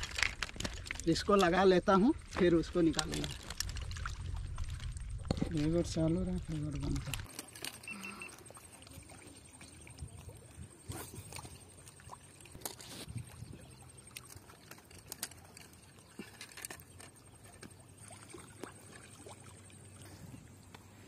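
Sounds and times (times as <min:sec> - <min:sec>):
water trickles: 0:00.0 - 0:21.0.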